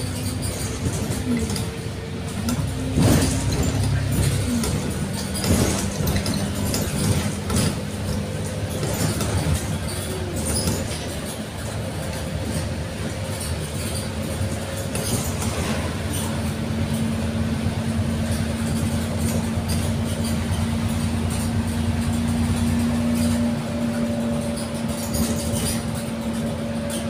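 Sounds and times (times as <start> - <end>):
tram rumble: 0.0 - 27.0.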